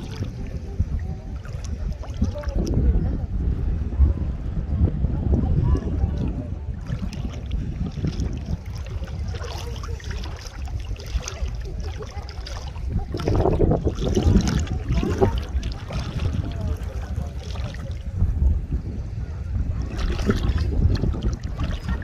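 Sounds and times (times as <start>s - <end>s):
water lapping at shore: 0.0s - 22.0s
wind buffeting microphone: 0.0s - 22.0s.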